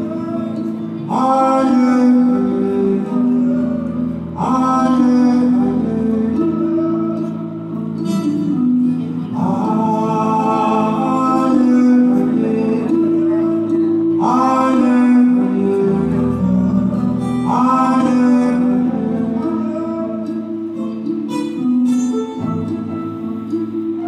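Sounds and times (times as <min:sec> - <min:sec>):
guitar music: 0:00.0 - 0:24.0
person singing: 0:00.0 - 0:24.0.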